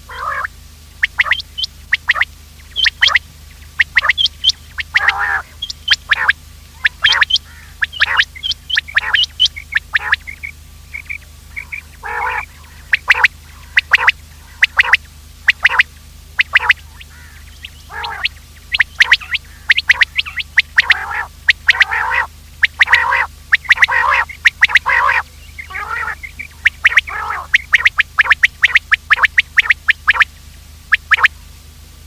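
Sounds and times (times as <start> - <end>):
quail calling: 0.0 - 31.3
steady low hum: 0.0 - 32.0.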